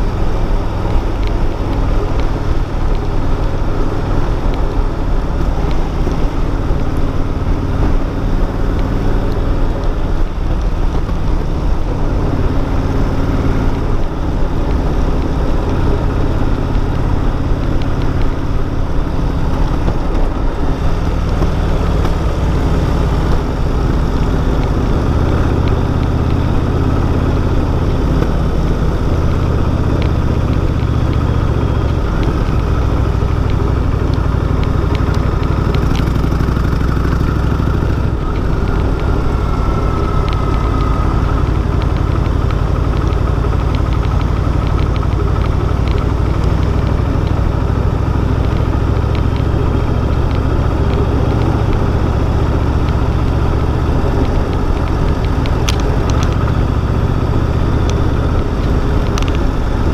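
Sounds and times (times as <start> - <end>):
motorcycle engine running: 0.0 - 59.9
road and wind noise: 0.0 - 59.9.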